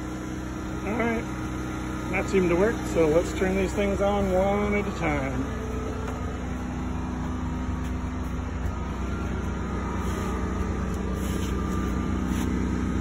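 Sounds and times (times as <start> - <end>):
generator engine humming: 0.0 - 13.0.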